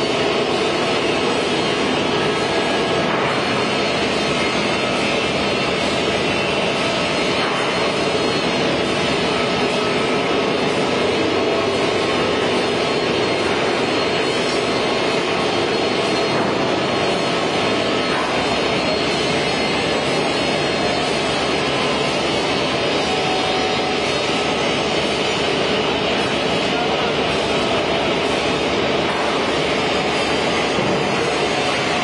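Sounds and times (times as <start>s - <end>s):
machinery running: 0.0s - 32.0s.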